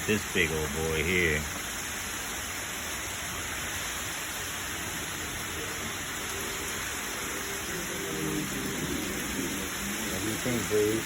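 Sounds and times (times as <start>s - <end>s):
rain hissing: 0.0s - 11.0s
wind: 0.0s - 11.0s.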